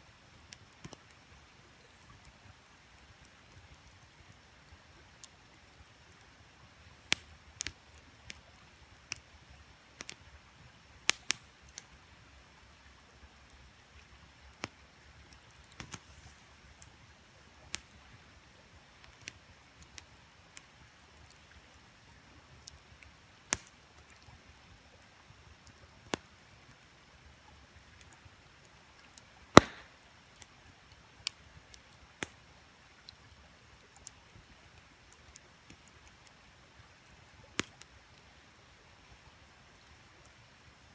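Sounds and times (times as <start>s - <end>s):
faint hiss: 0.0s - 40.9s
campfire crackling: 0.1s - 40.9s.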